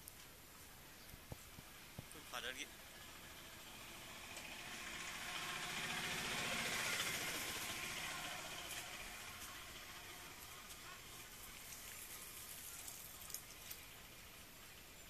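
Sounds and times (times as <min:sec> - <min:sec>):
vehicle engine passing by: 0:02.2 - 0:14.6.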